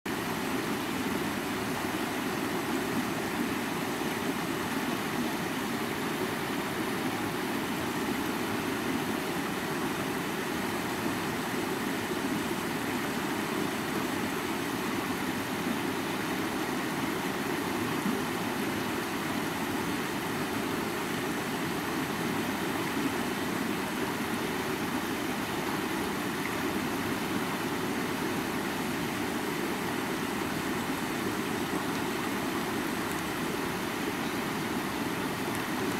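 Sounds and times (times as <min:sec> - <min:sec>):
river rushing over stones: 0:00.1 - 0:35.9.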